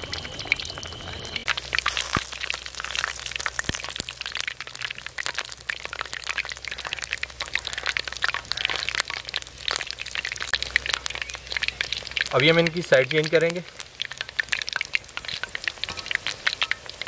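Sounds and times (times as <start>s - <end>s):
oil bubbling and crackling: 0.0s - 17.0s.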